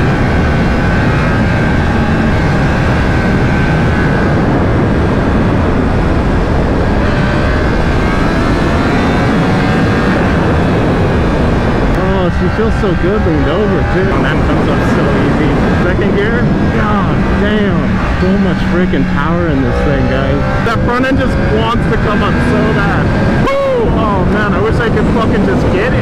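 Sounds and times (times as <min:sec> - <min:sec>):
loud wind rush over helmet: 0:00.0 - 0:26.0
motorcycle engine running: 0:00.0 - 0:26.0.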